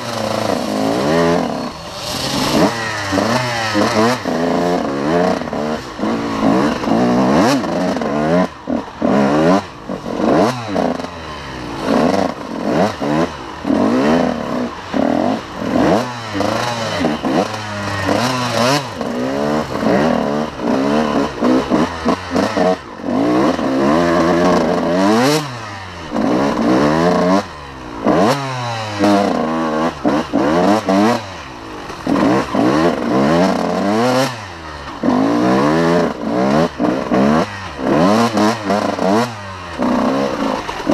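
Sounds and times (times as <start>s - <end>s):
two-stroke engine revving: 0.0s - 40.9s.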